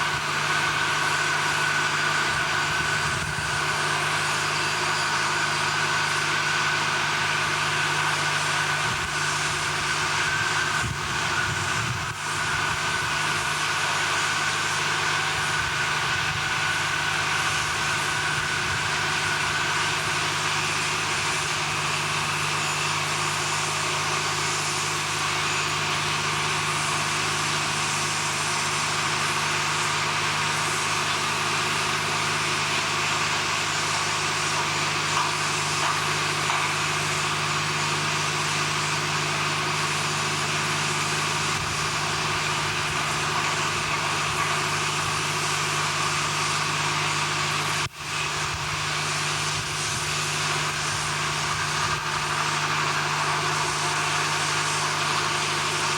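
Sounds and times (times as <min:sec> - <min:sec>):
heavy machinery droning: 0:00.0 - 0:55.9.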